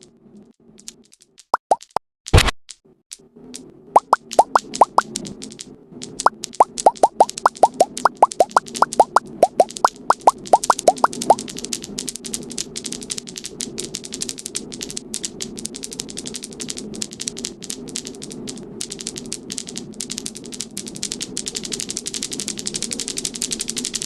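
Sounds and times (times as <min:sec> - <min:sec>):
marbles clattering down track: 0:04.0 - 0:24.0.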